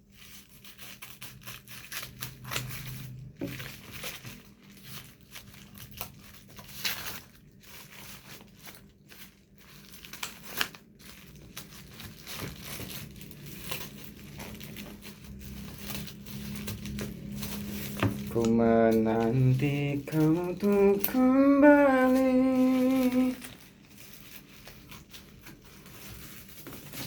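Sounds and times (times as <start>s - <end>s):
packaging crinkling and tearing: 0.0s - 27.0s.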